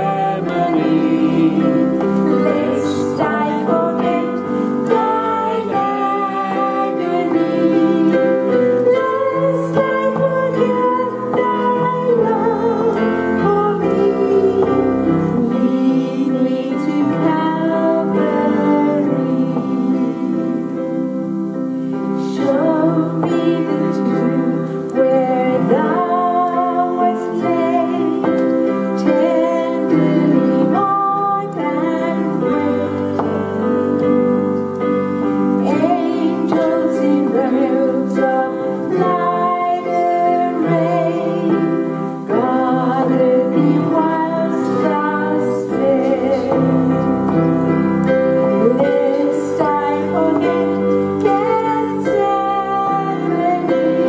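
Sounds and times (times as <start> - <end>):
electric keyboard: 0.0 - 54.0
women singing worship song: 0.0 - 54.0.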